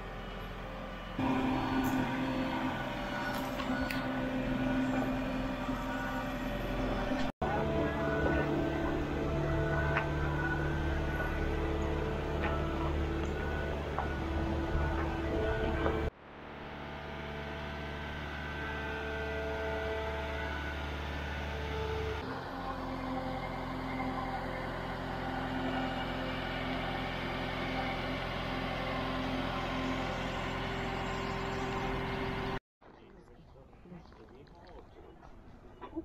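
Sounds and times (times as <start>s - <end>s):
travel lift engine running: 0.0s - 32.6s.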